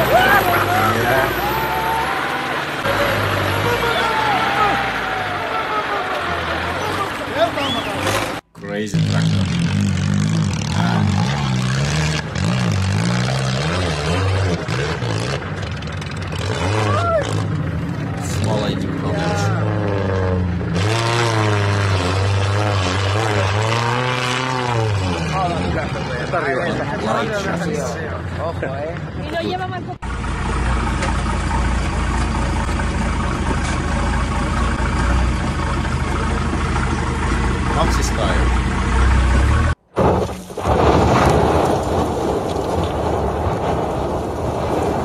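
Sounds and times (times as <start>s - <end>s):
engine revving under load: 0.0s - 28.3s, 30.0s - 39.8s.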